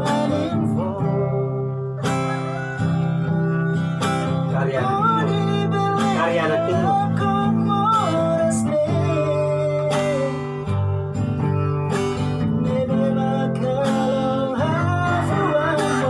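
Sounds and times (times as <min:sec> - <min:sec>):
man singing long notes: 0:00.0 - 0:10.7, 0:12.4 - 0:16.0
strummed acoustic guitar: 0:00.0 - 0:16.0.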